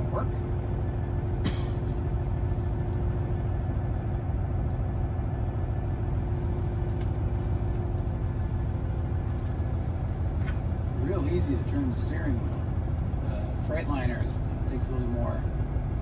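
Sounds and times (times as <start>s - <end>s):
constant hum: 0.0s - 16.0s
truck engine and road rumble: 0.0s - 16.0s.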